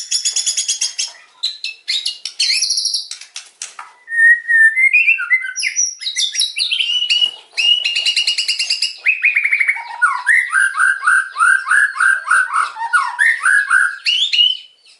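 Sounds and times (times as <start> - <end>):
bird singing rapid varied song: 0.0 - 3.2, 3.9 - 14.9.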